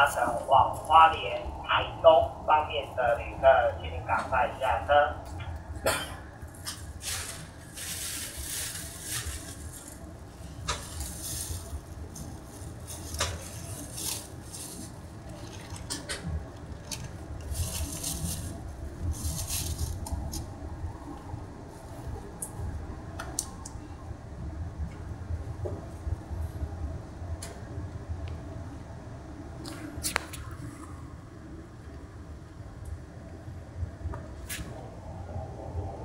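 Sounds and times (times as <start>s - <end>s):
train interior hum: 0.0s - 36.0s.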